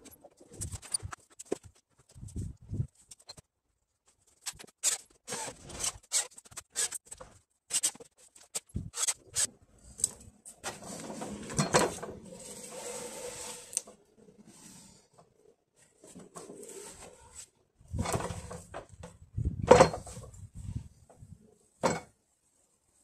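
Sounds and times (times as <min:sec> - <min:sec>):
continuous scraping of wood: 0:00.0 - 0:21.5.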